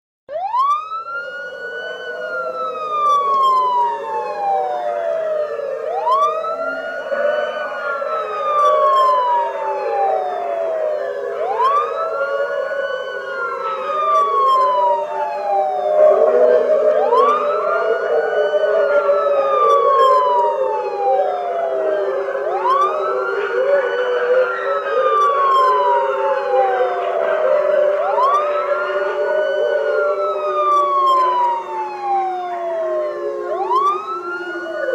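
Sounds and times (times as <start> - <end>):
dogs howling: 0.3 - 34.9
emergency siren wailing: 0.3 - 34.9.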